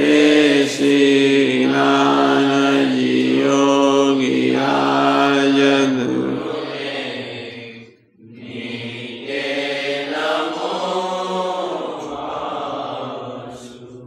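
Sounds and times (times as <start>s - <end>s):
voice chanting a hymn: 0.0s - 14.0s.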